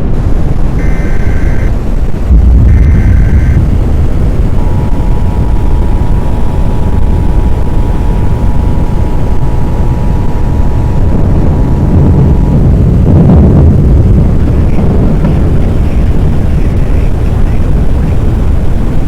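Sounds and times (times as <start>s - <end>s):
heavy low rumble: 0.0s - 19.0s.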